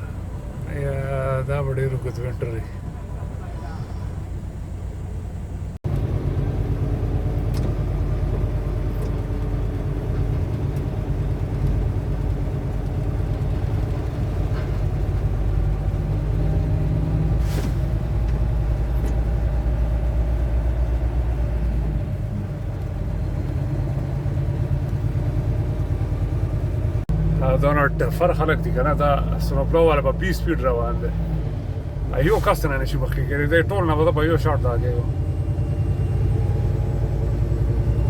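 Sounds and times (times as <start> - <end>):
truck engine and road rumble: 0.0 - 38.0.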